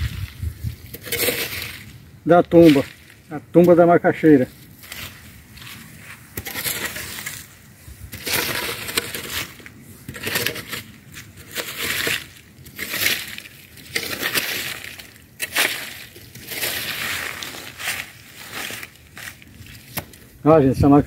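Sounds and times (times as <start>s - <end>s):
hoe scraping through dry soil: 0.0s - 20.9s.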